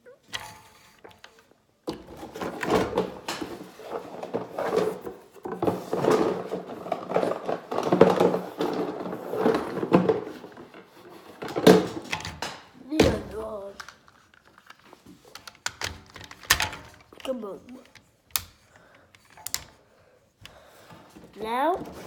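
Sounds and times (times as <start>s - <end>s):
plastic toy parts clicking and scraping: 0.3s - 12.6s, 13.4s - 19.8s.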